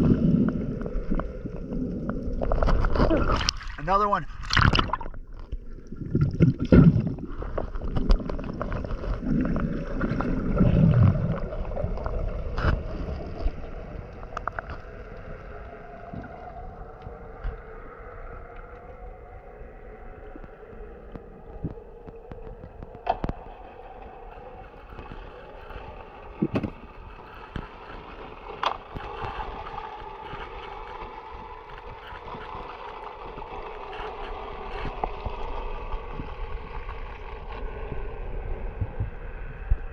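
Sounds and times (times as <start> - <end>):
low underwater hum: 0.0 - 39.9
underwater bubbling: 0.0 - 39.9.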